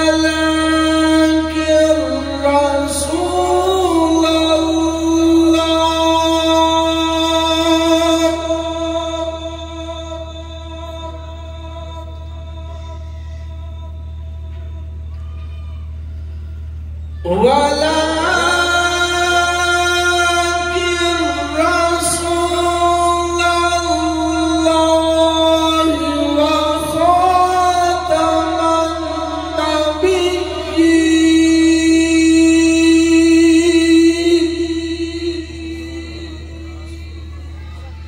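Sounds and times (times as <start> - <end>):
man reciting melodically over loudspeaker: 0.0 - 38.0
steady low hum: 0.0 - 38.0.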